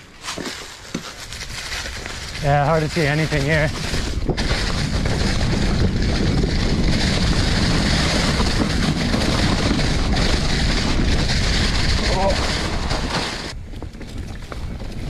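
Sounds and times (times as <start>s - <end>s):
bike tyres on dry leaves: 0.0s - 15.0s
wind on microphone: 1.3s - 15.0s.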